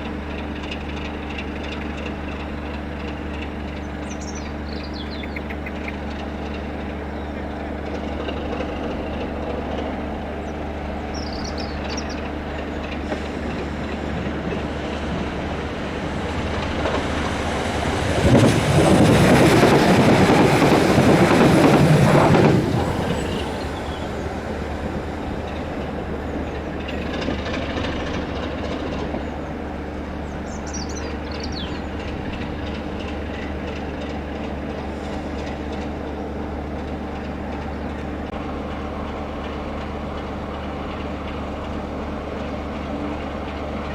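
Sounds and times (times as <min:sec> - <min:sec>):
locomotive diesel engine humming: 0:00.0 - 0:43.9.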